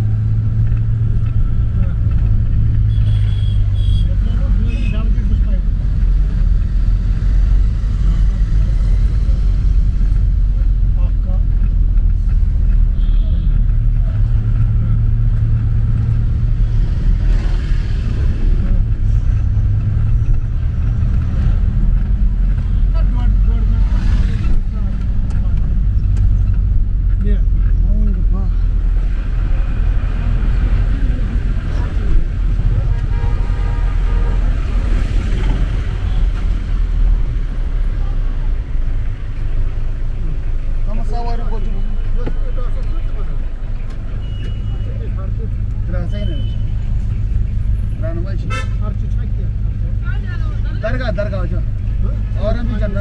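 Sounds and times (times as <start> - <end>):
vehicle engine and road rumble: 0.0 - 53.0.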